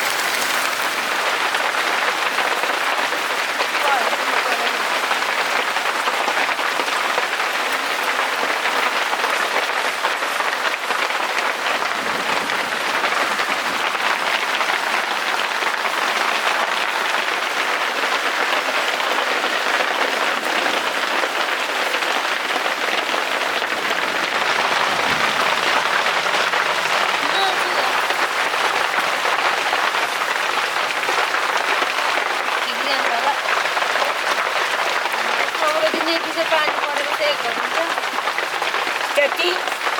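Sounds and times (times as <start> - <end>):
rain and hail falling: 0.0 - 39.9.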